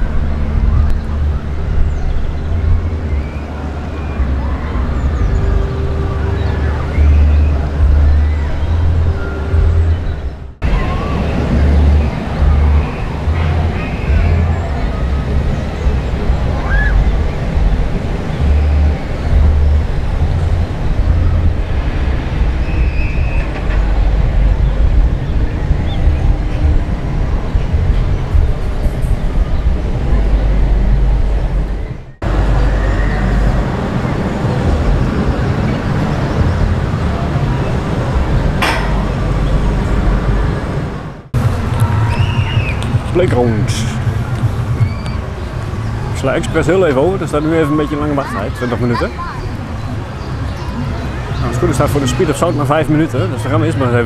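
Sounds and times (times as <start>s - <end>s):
low rumble: 0.0s - 46.2s
distant voices: 0.0s - 54.0s.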